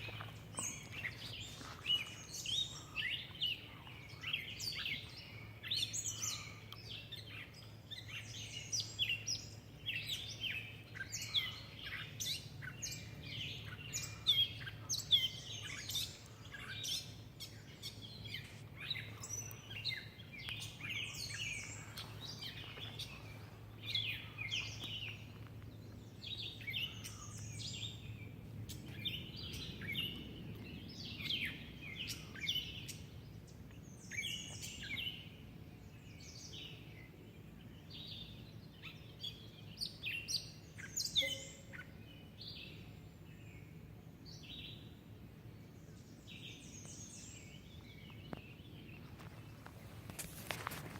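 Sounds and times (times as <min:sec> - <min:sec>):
birds chirping and calling: 0:00.0 - 0:50.9
faint low hum: 0:00.0 - 0:50.9.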